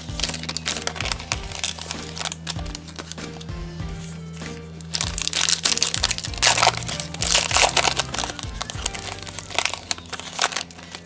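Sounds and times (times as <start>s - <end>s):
foil wrapper tearing and crinkling: 0.0s - 3.5s, 4.8s - 11.0s
background music: 0.0s - 11.0s.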